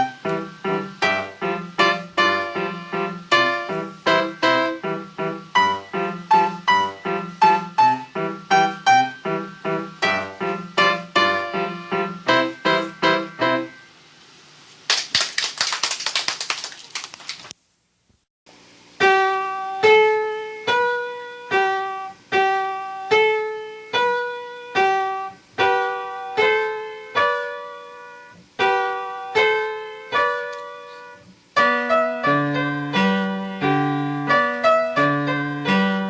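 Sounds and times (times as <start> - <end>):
solo piano: 0.0 - 14.0, 18.8 - 36.0.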